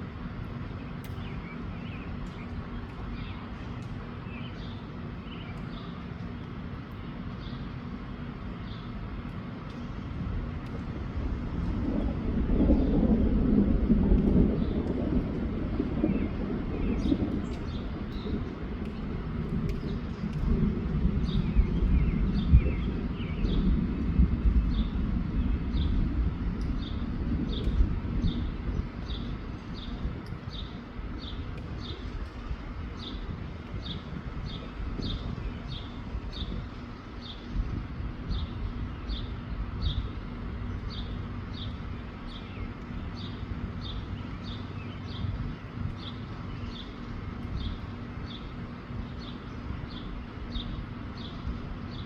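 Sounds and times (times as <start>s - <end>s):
wind buffeting the microphone: 8.2s - 52.0s.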